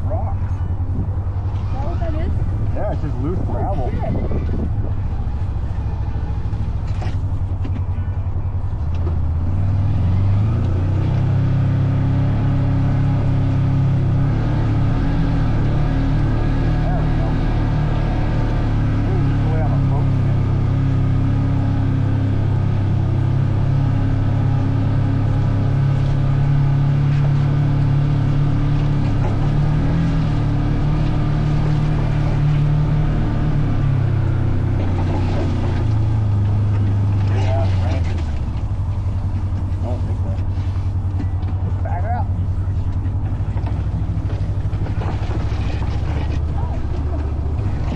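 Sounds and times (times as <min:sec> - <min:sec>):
vehicle engine revving: 0:00.0 - 0:47.9.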